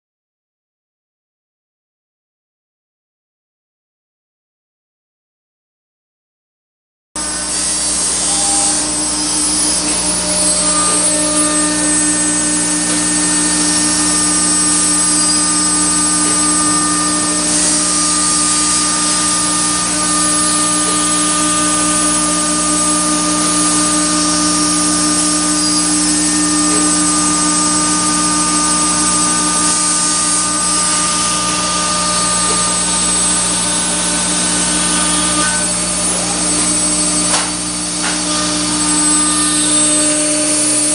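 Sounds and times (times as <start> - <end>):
cnc router spindle whine: 7.2 - 40.9.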